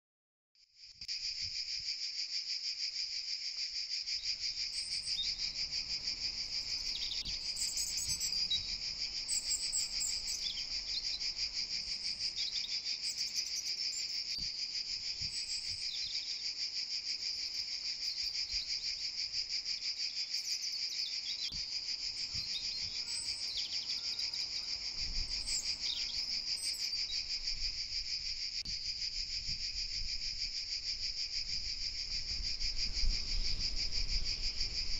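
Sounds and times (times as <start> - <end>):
chirping insects chorus: 0.6 - 34.9
higher insect chirps: 0.6 - 34.9.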